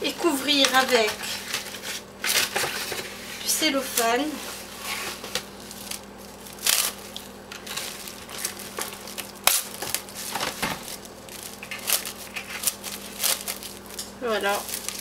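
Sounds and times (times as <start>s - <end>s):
plastic cling film crinkling: 0.4s - 3.2s, 3.8s - 15.0s.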